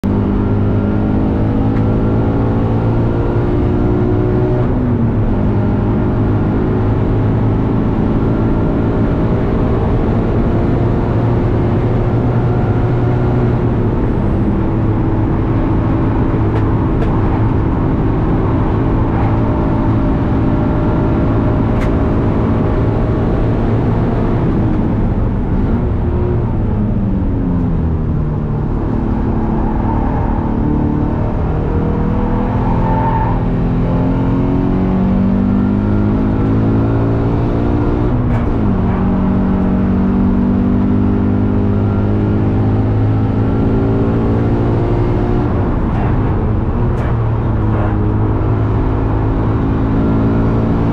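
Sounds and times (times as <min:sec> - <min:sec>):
car engine running hard: 0:00.0 - 0:50.9.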